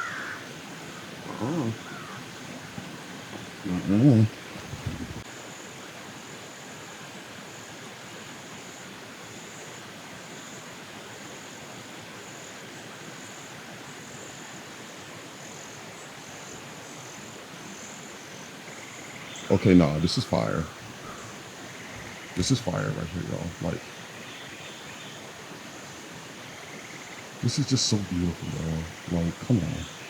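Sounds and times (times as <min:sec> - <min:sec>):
insect chorus buzzing: 0:00.0 - 0:30.0
steady hiss: 0:00.0 - 0:30.0.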